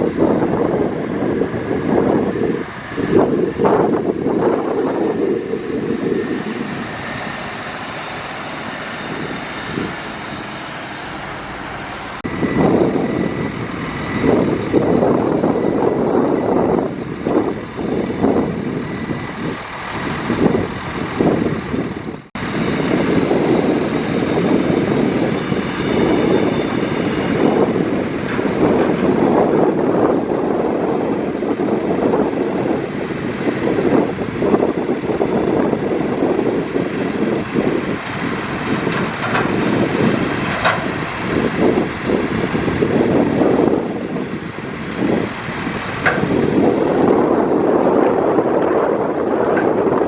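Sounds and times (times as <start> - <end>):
heavy machinery diesel engines: 0.0 - 50.0.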